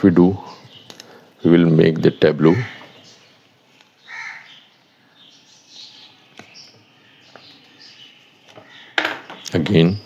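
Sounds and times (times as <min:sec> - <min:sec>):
faint bird calls: 0:00.3 - 0:10.0.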